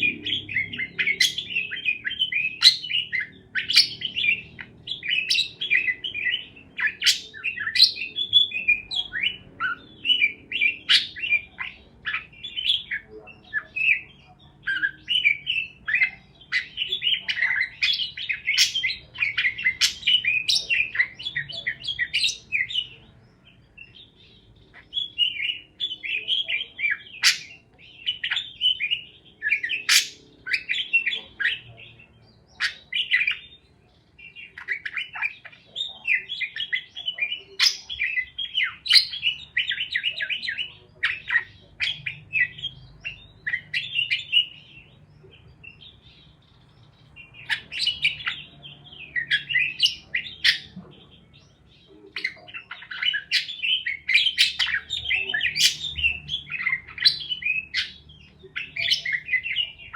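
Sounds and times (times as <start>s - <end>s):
parakeets chirping and squawking: 0.0s - 59.9s.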